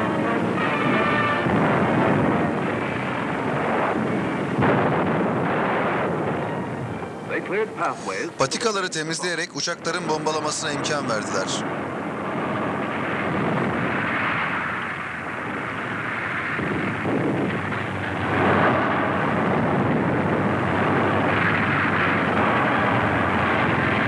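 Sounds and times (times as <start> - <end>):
aircraft engines rumbling: 0.0 - 24.0
explosions: 0.0 - 24.0.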